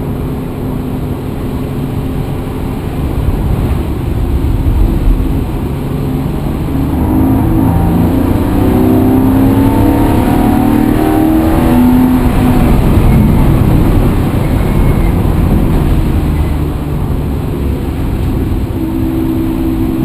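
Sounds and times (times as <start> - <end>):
rushing road noise: 0.0 - 20.0
vehicle engine accelerating: 0.6 - 20.0.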